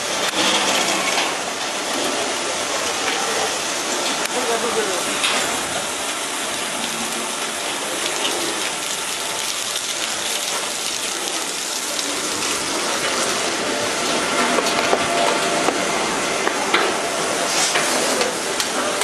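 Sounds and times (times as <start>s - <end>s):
high-pressure water jets spraying: 0.0s - 19.0s.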